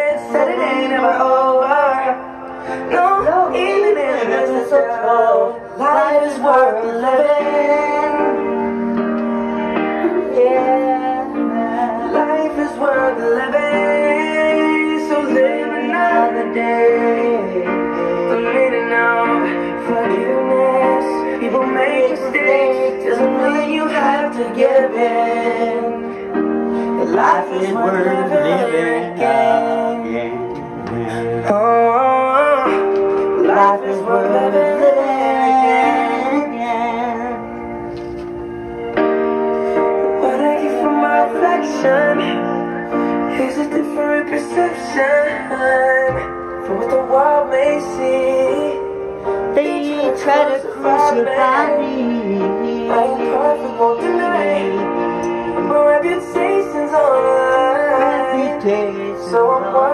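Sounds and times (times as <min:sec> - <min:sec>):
person singing sliding notes: 0:00.0 - 0:59.9
sustained musical accompaniment: 0:00.0 - 0:59.9.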